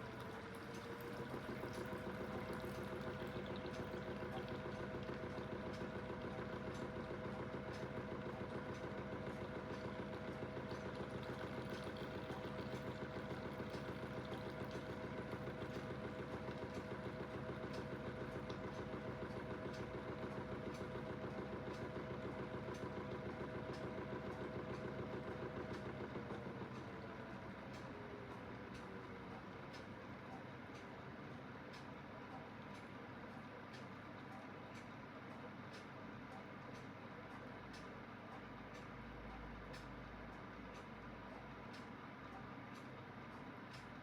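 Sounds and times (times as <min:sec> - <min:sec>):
washing machine spinning: 0:00.0 - 0:44.0.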